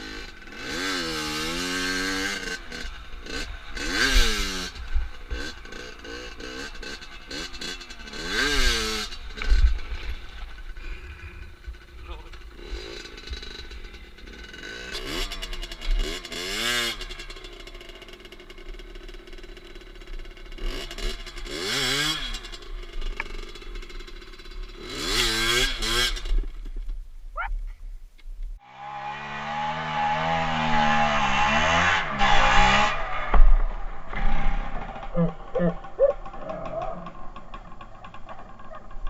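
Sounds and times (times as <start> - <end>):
motorcycle engine revving: 0.0 - 26.6, 28.6 - 39.0.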